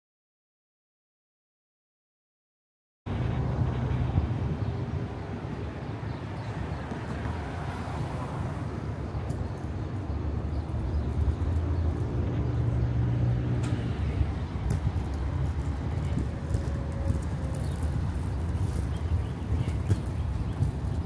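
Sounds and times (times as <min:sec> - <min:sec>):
heavier engine hum of vehicle: 0:03.1 - 0:21.0
low rumble of passing cars: 0:03.1 - 0:21.0.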